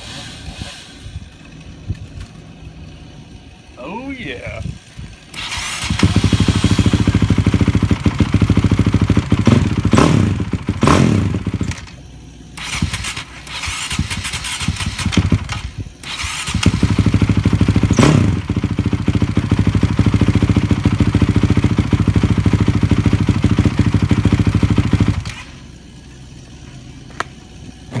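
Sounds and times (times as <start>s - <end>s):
motorcycle engine revving: 4.6s - 28.0s.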